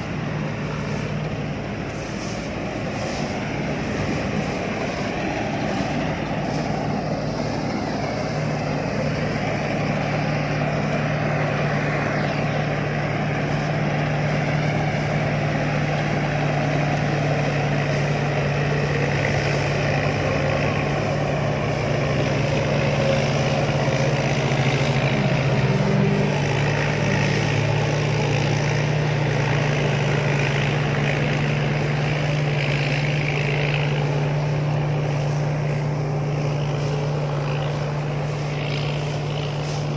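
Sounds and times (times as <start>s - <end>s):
harvester engine humming: 0.0s - 39.9s.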